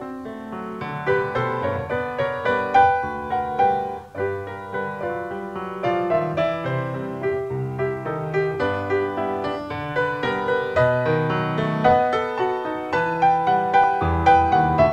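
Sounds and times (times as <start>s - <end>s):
slow solo piano melody: 0.0s - 14.9s.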